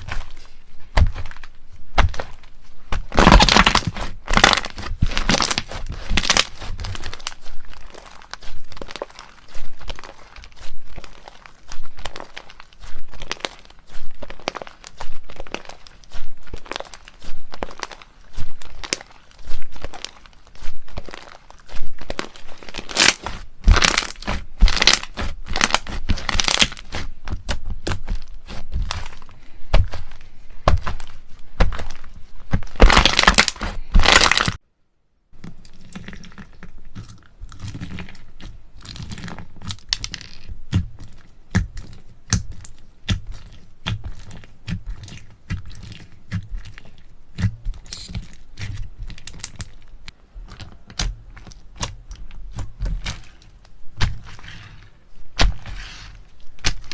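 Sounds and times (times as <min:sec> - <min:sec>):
slime crackling and popping: 0:00.0 - 0:34.6, 0:35.4 - 0:56.9.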